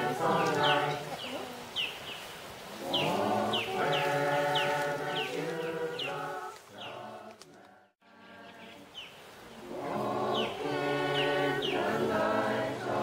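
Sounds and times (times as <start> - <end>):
choir singing unaccompanied: 0.0 - 1.7, 2.6 - 13.0.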